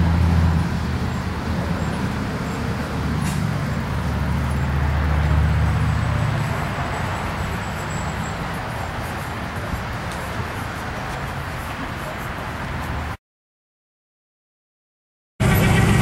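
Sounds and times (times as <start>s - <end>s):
vehicle engine idling: 0.0s - 13.1s.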